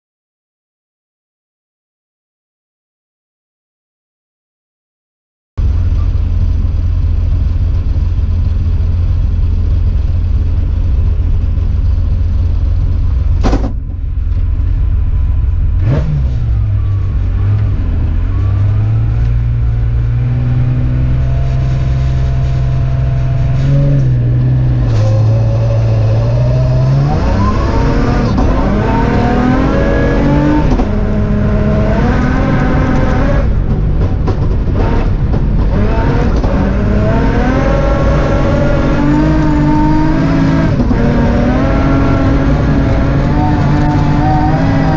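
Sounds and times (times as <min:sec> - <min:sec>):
rally car engine revving: 0:05.6 - 0:44.9.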